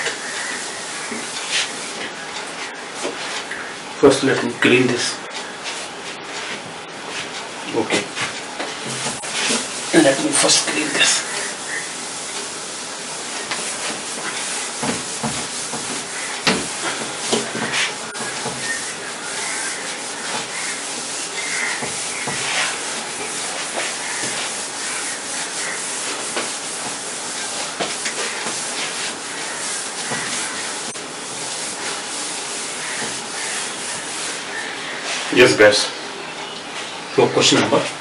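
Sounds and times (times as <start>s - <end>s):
cloth wiping a whiteboard: 0.0s - 3.5s, 5.6s - 35.6s.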